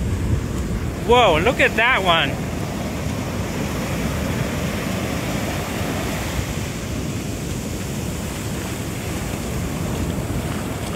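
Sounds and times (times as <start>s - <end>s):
ocean waves breaking: 0.0s - 10.9s
wind on microphone: 0.0s - 10.9s.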